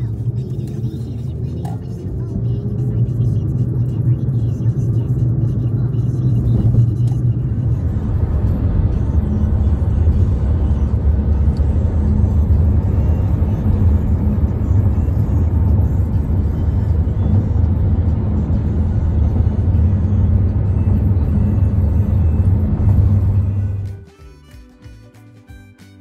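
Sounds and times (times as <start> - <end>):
car road rumble inside cabin: 0.0 - 24.0.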